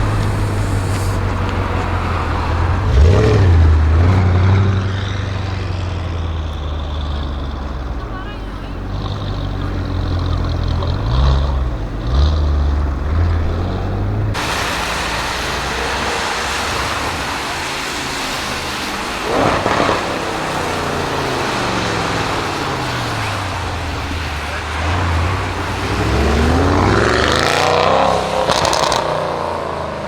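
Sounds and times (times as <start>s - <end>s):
loud exhaust burst: 0.0s - 29.9s
car engine revving: 0.0s - 30.0s
exhaust rush of noise: 0.0s - 30.0s.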